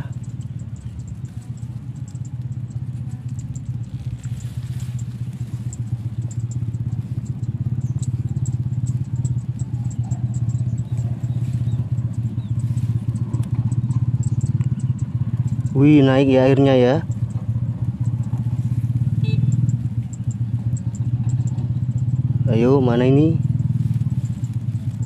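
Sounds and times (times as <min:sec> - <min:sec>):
small engine humming: 0:00.0 - 0:25.0.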